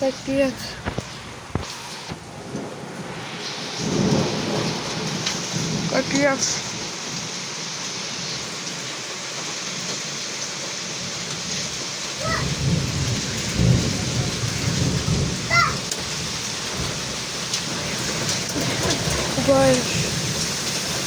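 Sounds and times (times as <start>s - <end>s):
rolling thunder rumble: 0.0s - 8.6s, 11.0s - 21.0s
heavy rain falling: 0.0s - 21.0s.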